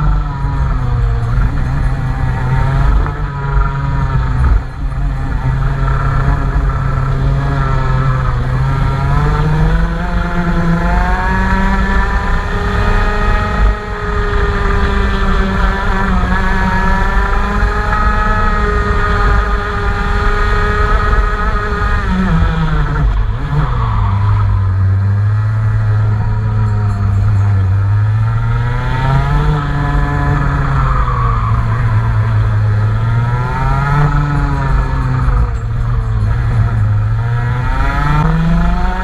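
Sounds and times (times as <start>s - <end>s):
engine revving and idling: 0.0s - 39.0s.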